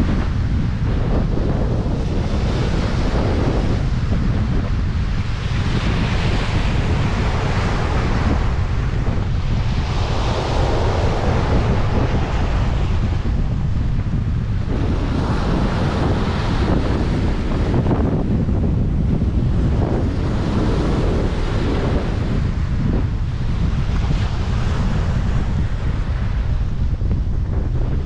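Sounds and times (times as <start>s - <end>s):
sea waves washing in: 0.0s - 28.0s
wind buffeting microphone: 0.0s - 28.0s.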